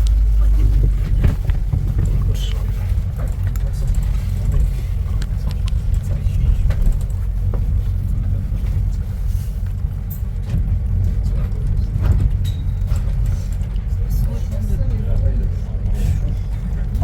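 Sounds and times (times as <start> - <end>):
faint clicks and rattles: 0.0 - 17.0
vehicle interior rumble: 0.0 - 17.0.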